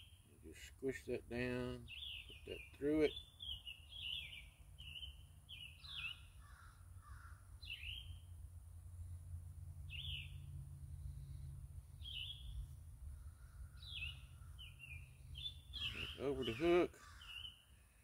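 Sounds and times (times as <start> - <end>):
birds chirping: 0.0 - 8.3, 9.9 - 18.0.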